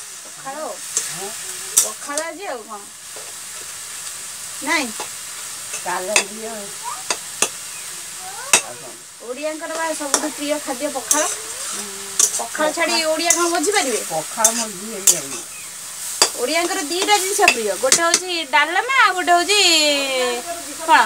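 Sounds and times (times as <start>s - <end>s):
greens sizzling in a pan: 0.0s - 21.0s.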